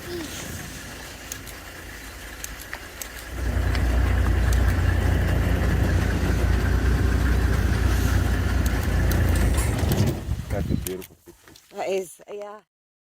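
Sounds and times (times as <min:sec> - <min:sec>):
vehicle engine running: 0:00.3 - 0:10.9.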